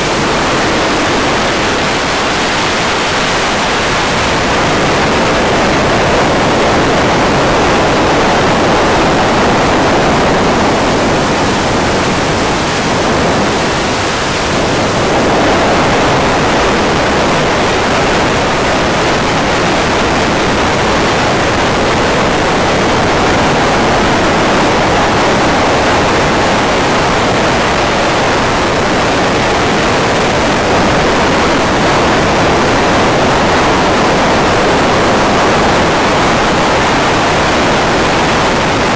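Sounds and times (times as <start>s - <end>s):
loud rushing wind hiss: 0.0s - 38.9s.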